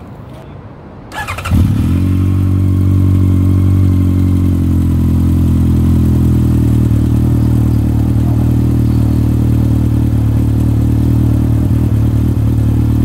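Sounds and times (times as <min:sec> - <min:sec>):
motorcycle engine idling: 0:01.2 - 0:13.0.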